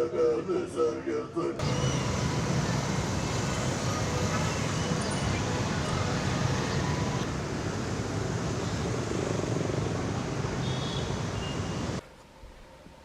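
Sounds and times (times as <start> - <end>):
street traffic rumble: 1.6 - 12.0.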